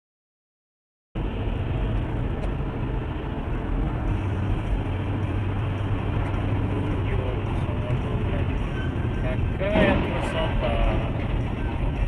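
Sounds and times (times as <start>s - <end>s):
car engine and road noise: 1.2s - 12.0s.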